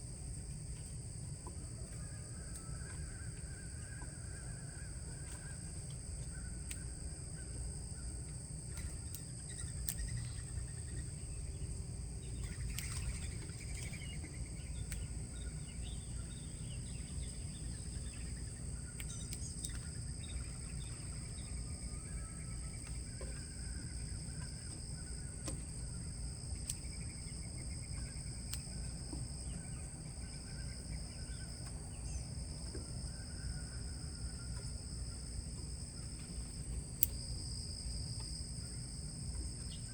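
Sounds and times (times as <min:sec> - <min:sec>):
high insect drone: 0:00.0 - 0:39.9
low background rumble: 0:00.0 - 0:39.9.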